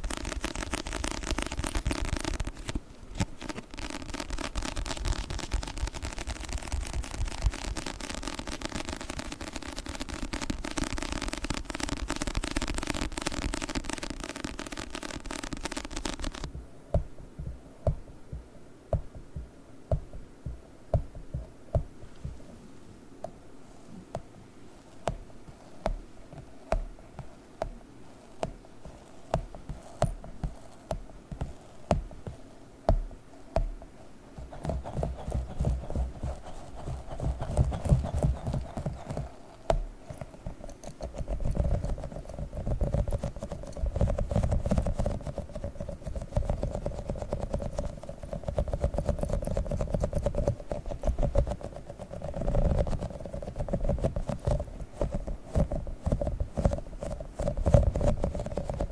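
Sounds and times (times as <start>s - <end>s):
sticky toy tapping and peeling: 0.0s - 22.6s, 24.0s - 58.9s.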